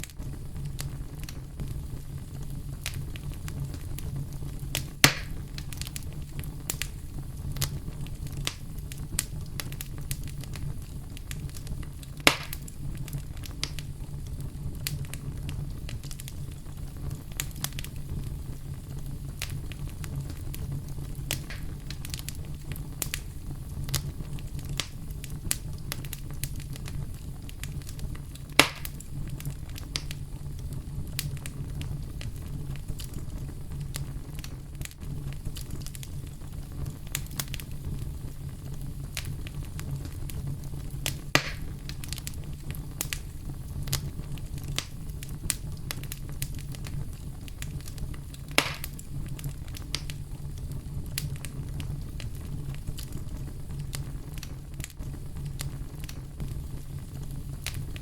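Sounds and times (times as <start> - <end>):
campfire crackling: 0.0 - 58.0
fire snaps: 0.0 - 58.0.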